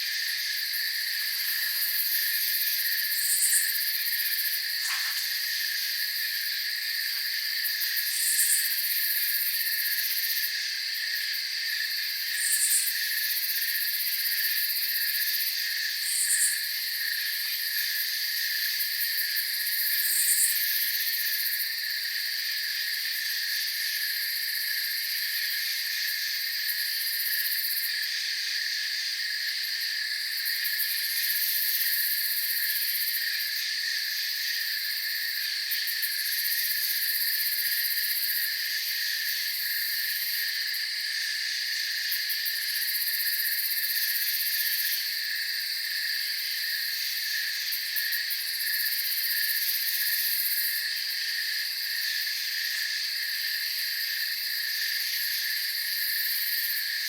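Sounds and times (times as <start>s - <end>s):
crickets and insects trilling: 0.0s - 57.0s
high-pitched insect layer: 0.0s - 57.0s.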